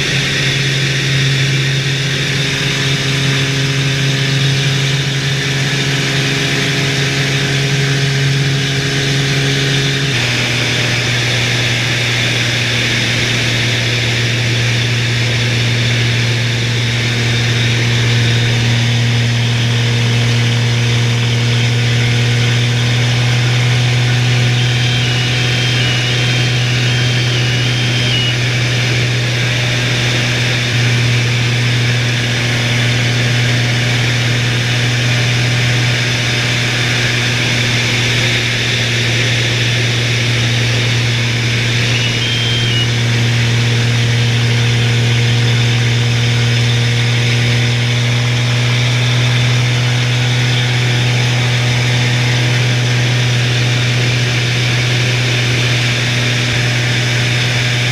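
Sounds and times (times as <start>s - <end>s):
propeller aircraft engine drone: 0.0s - 57.9s.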